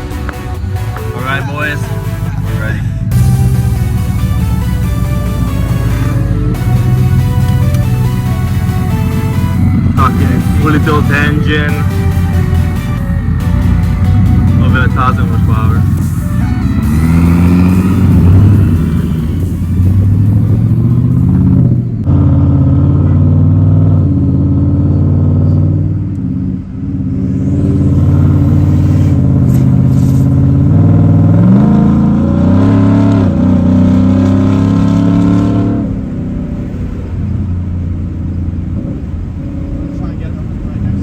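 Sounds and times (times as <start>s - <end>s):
car engine under load: 0.0s - 41.0s.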